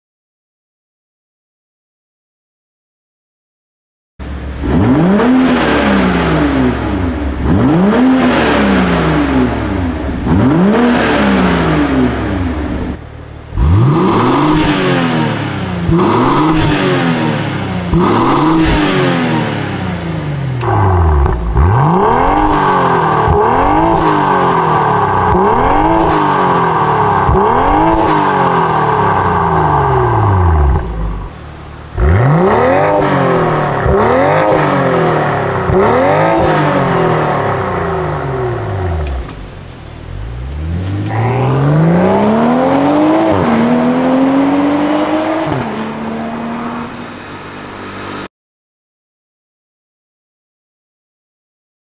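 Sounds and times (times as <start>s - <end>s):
car engine revving: 4.2s - 48.3s.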